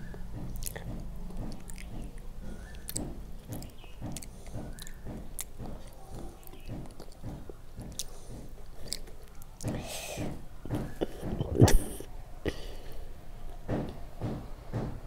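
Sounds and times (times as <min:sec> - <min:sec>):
person chewing with mouth smacks: 0:00.0 - 0:13.0.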